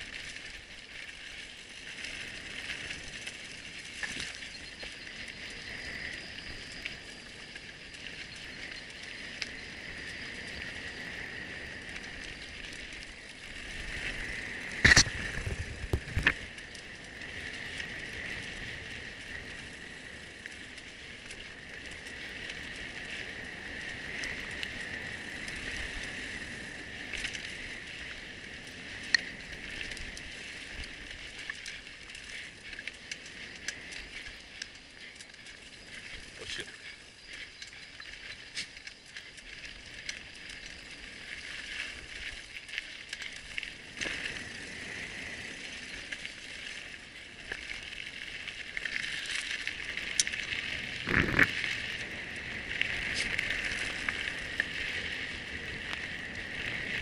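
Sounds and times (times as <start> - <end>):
bike frame and chain rattling: 0.0 - 57.0
bike tyres rolling on dirt: 0.0 - 57.0.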